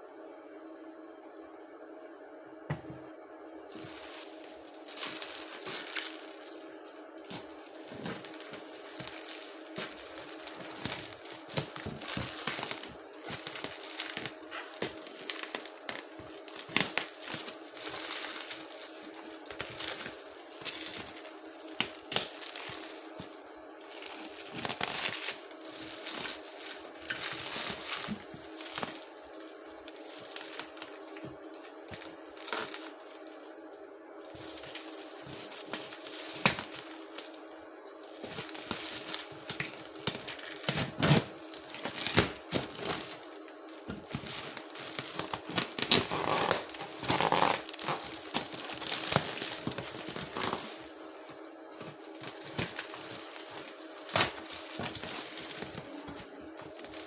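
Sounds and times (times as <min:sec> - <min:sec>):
faint steady hum: 0:00.0 - 0:57.0
plastic packaging crinkling: 0:03.7 - 0:57.0.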